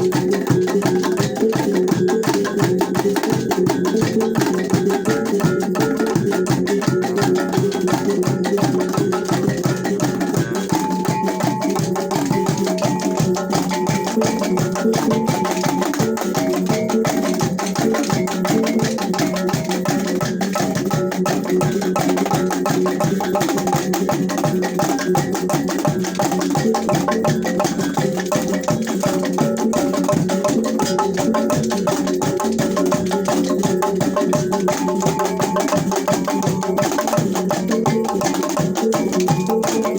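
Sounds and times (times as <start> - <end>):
fast even percussion beat: 0.0 - 39.9.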